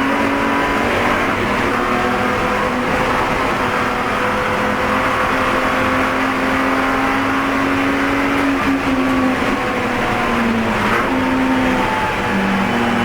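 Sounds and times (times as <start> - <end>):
race car engine running hard: 0.0 - 13.0.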